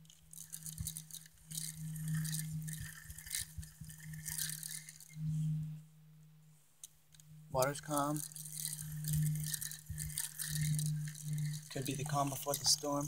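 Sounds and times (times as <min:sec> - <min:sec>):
fishing reel clicking and whirring: 0:00.0 - 0:05.7, 0:06.8 - 0:13.0.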